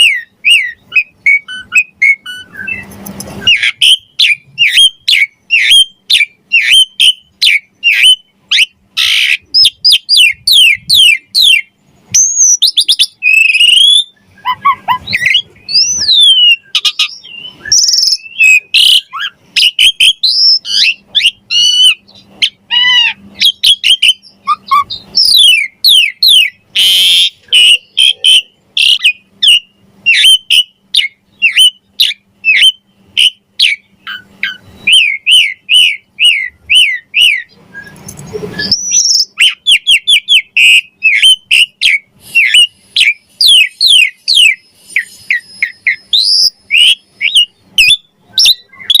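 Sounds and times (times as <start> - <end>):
starling singing varied song: 0.0 - 49.0.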